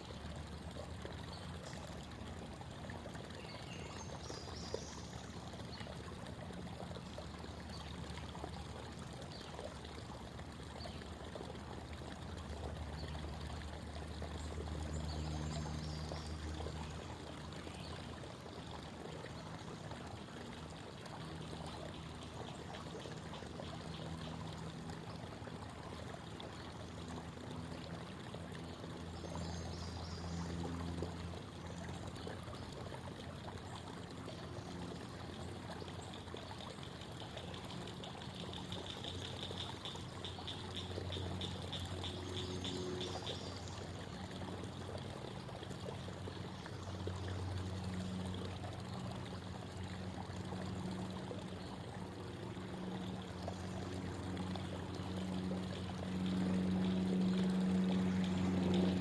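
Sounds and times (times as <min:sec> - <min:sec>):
creek water babbling: 0:00.0 - 0:59.0.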